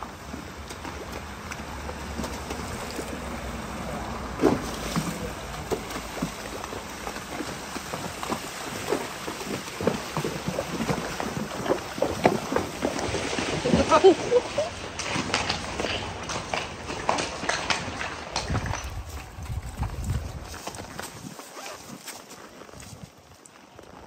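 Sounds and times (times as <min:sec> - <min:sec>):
hooves splashing water: 0:00.0 - 0:24.0.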